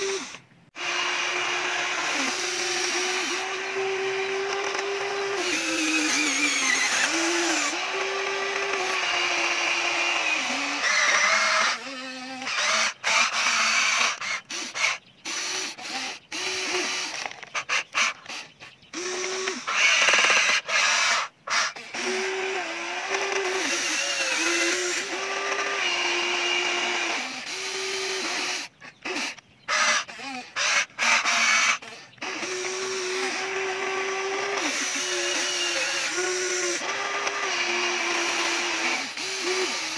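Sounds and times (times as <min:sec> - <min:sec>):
electric motors whining: 0:00.0 - 0:39.9.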